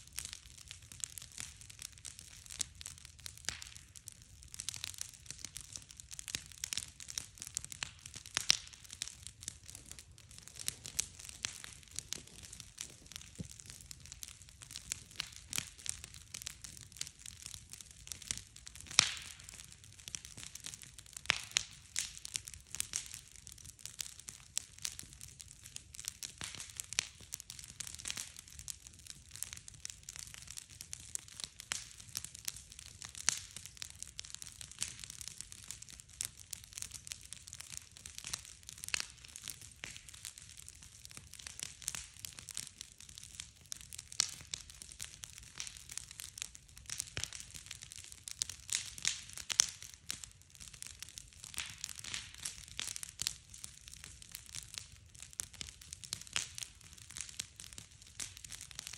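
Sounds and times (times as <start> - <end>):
campfire crackling and popping: 0.0 - 58.9.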